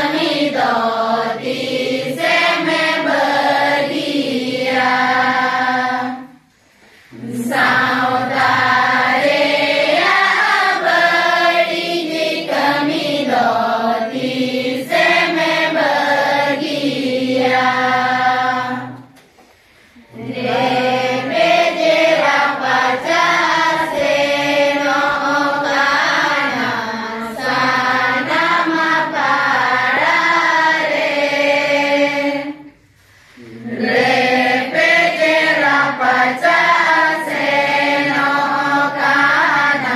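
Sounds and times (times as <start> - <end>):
women and girls singing in unison: 0.0 - 39.9.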